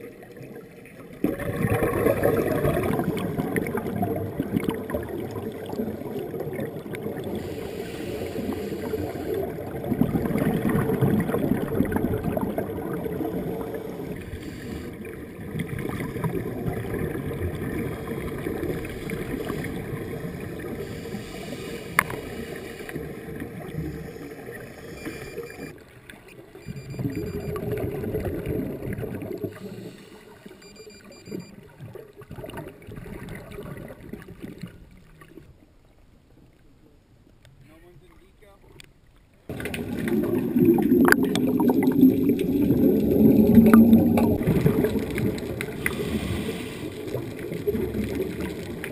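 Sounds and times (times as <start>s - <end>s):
underwater bubbles and gurgling: 0.0s - 37.6s, 38.7s - 48.9s.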